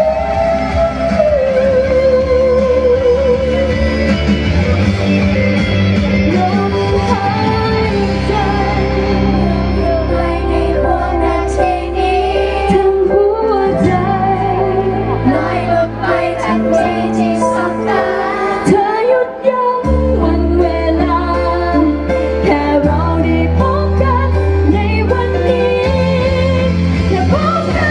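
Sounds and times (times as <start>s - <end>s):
woman singing into a microphone: 0.0s - 3.9s, 6.3s - 27.9s
instrumental accompaniment: 0.0s - 27.9s.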